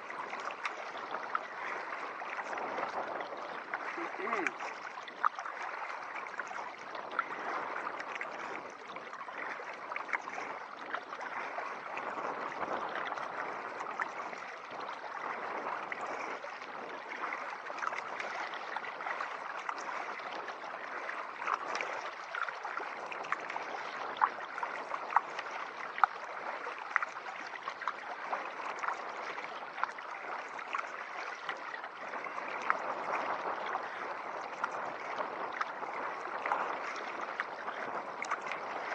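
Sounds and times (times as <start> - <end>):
sharp splashes and clicks: 0.0 - 38.9
water lapping against kayak: 0.0 - 38.9.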